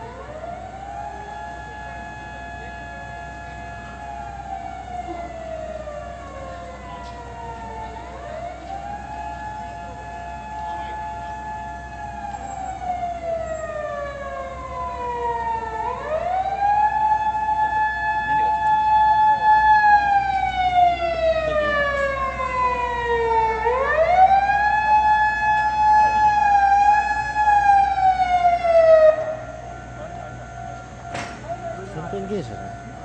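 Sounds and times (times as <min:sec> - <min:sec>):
fire engine motor siren wailing: 0:00.0 - 0:33.0.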